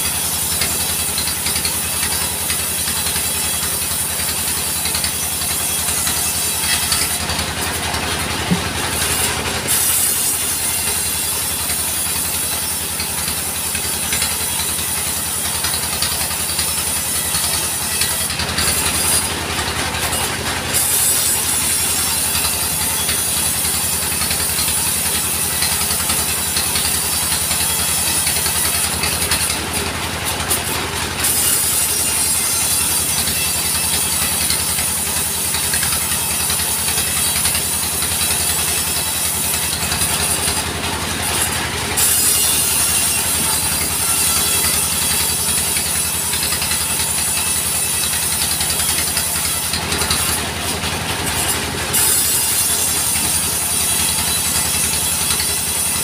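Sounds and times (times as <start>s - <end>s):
saw blade hissing through log: 0.0s - 56.0s
sawmill engine running: 0.0s - 56.0s.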